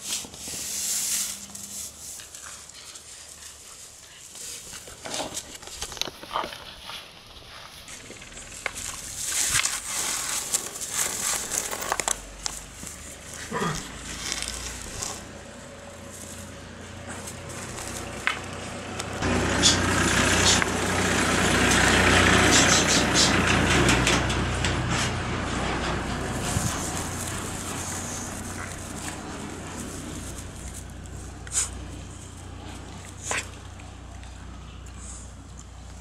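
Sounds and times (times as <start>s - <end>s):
broom bristles rustling: 0.0s - 34.1s.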